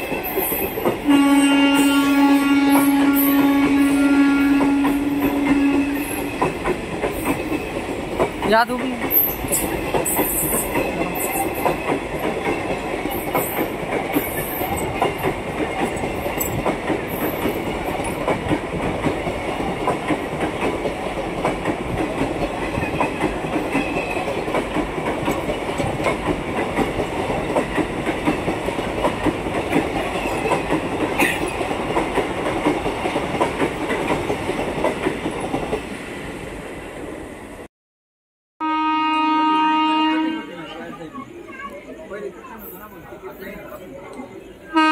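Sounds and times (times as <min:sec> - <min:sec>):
train passing at high speed: 0:00.0 - 0:37.7.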